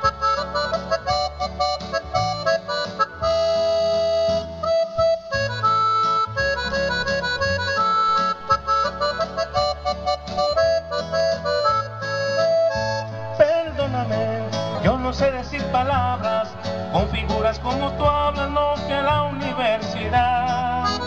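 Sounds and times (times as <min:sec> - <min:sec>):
electronic keyboard melody: 0:00.0 - 0:21.0
steady bass accompaniment: 0:00.0 - 0:21.0.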